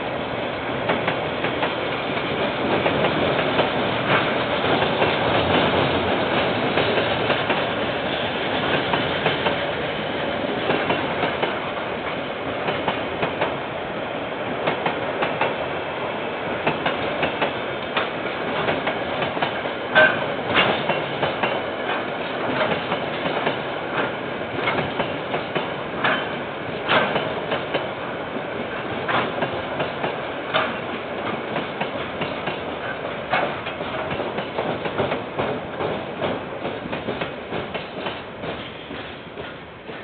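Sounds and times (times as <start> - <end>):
train wheels clicking over rail joints: 0.8 - 9.8, 10.5 - 13.6, 14.6 - 15.7, 16.5 - 40.0.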